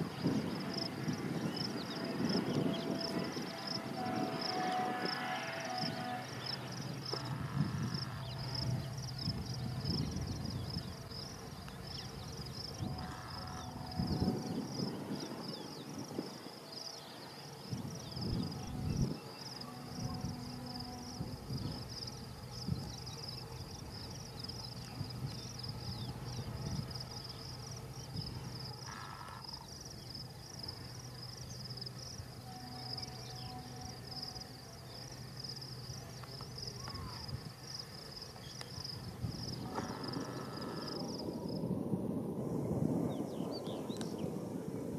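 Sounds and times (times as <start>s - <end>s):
wind gusts on microphone: 0.0s - 32.4s, 34.1s - 44.9s
crickets chirping: 0.0s - 44.9s.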